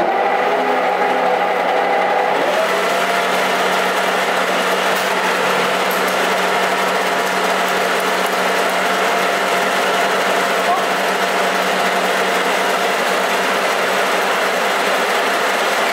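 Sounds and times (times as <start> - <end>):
metal lathe running: 0.0 - 15.9.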